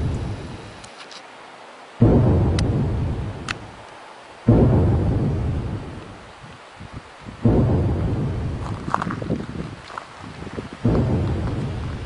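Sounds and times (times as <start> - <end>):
deep booming rumbles: 0.0 - 0.5, 2.0 - 3.9, 4.5 - 12.0.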